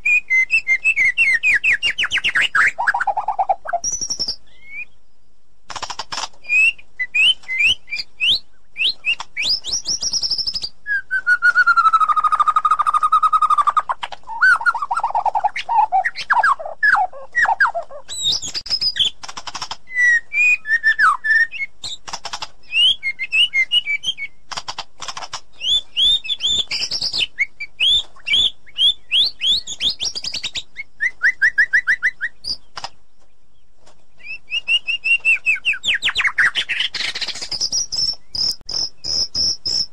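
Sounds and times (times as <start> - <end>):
bird singing varied whistling song: 0.0 - 5.0, 6.4 - 19.2, 19.8 - 22.0, 22.6 - 24.4, 25.5 - 32.8, 34.2 - 39.9.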